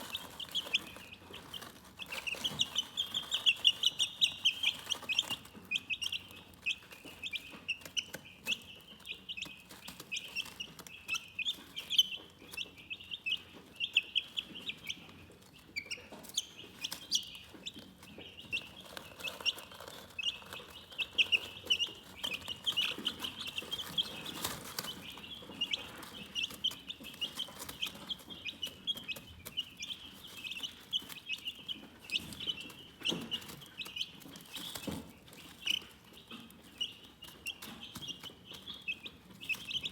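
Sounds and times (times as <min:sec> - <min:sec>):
chickens peeping: 0:00.0 - 0:39.9.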